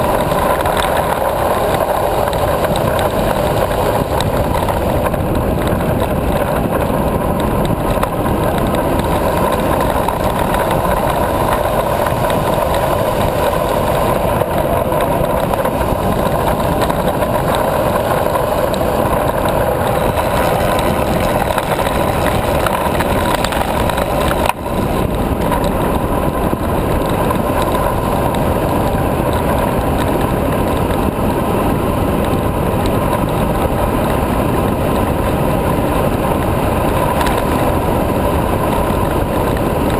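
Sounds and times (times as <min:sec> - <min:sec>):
bicycle tyre noise on asphalt: 0:00.0 - 0:39.9
wind rushing over microphone: 0:00.0 - 0:39.9.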